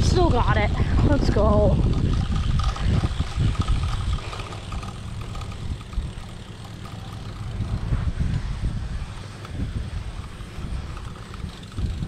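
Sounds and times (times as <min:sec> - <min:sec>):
bike tyres rolling over grass: 0:00.0 - 0:12.0
wind rumbling on microphone: 0:00.0 - 0:12.0.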